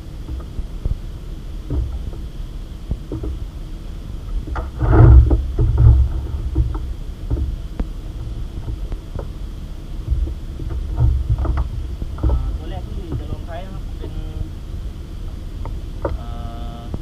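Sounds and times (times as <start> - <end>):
boat thumping on choppy water: 0.0 - 17.0.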